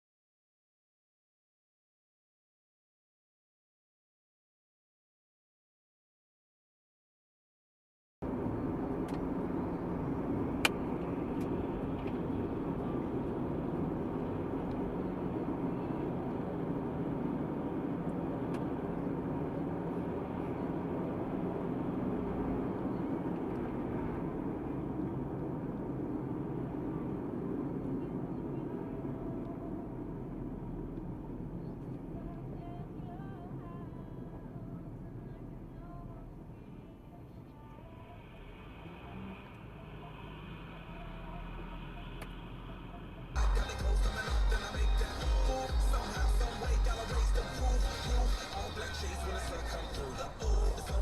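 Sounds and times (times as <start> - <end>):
car engine and road noise: 8.2 - 51.0.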